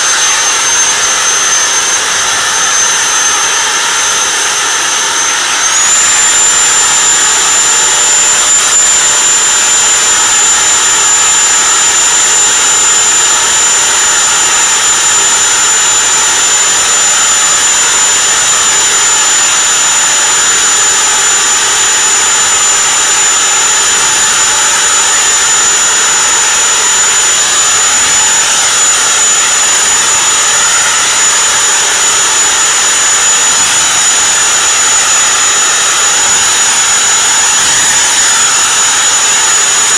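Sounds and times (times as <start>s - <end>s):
leaf blower motor whine: 0.0s - 39.9s.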